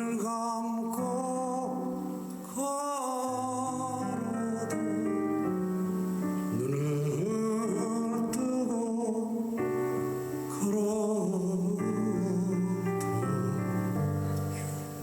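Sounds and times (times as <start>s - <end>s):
man singing: 0.0s - 5.6s, 6.3s - 15.0s
instrumental accompaniment: 1.0s - 15.0s.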